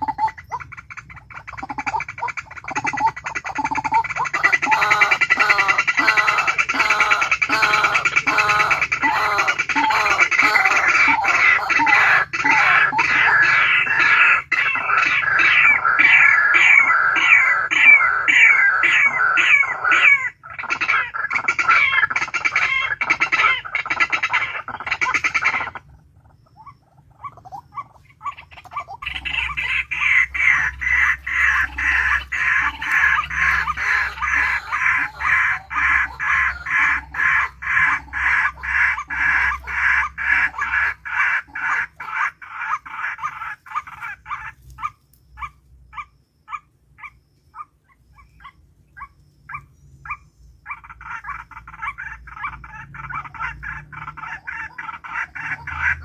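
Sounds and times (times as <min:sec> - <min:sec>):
bird calling with harsh notes: 0:00.0 - 0:56.0.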